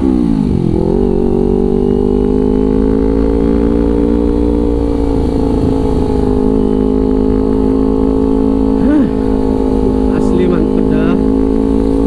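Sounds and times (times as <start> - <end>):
low wind rumble: 0.0 - 12.0
motorcycle engine cruising: 0.0 - 12.0.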